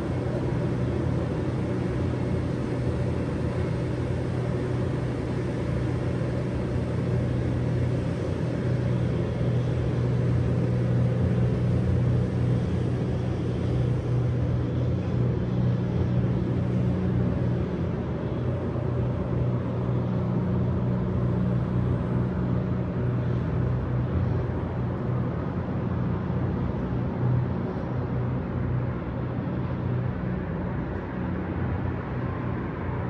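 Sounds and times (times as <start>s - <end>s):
constant drone: 0.0s - 33.0s.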